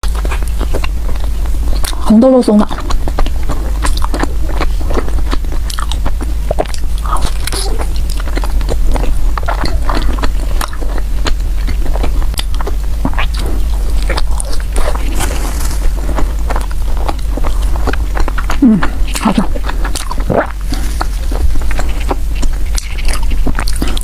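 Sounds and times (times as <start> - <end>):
person chewing bread: 0.0 - 24.0
steady low hum: 0.0 - 24.0.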